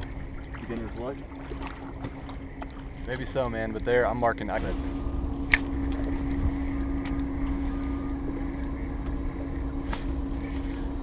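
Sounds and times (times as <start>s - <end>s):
steady low hum: 0.0s - 11.0s
wind rumbling on microphone: 0.0s - 11.0s.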